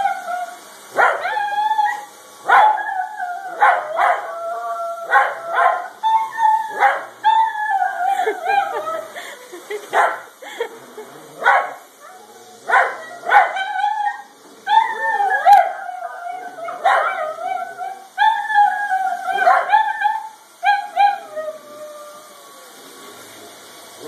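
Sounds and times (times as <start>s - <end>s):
dog howling: 0.0s - 9.2s, 12.0s - 23.3s.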